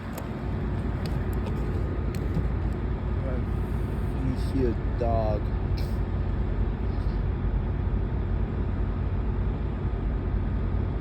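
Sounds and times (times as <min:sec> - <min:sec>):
low rumble of riding: 0:00.0 - 0:11.0.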